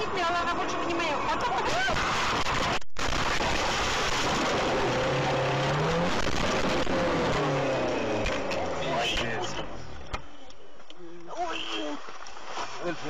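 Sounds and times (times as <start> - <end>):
road and wind noise in car: 0.0 - 10.9.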